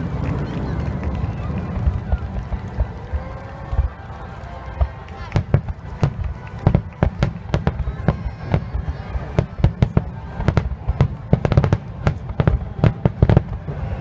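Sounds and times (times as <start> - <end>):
continuous low rumble: 0.0 - 14.0
fireworks bursting: 0.0 - 14.0.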